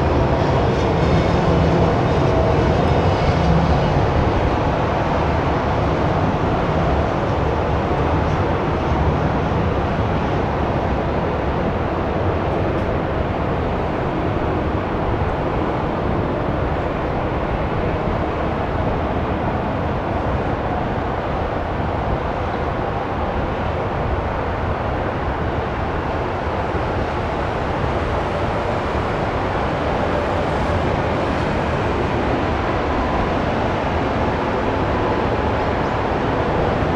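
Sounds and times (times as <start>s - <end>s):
jet airliner engine roar: 0.0s - 36.9s.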